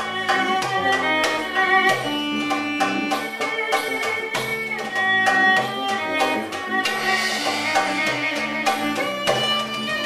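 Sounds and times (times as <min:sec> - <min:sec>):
percussion beats: 0:00.0 - 0:10.0
violin melody: 0:00.0 - 0:10.0.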